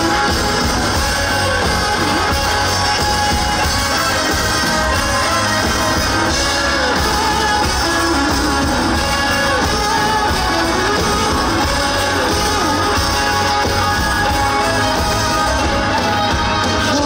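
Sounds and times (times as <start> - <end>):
guitar: 0.0 - 17.0
rock band playing: 0.0 - 17.0.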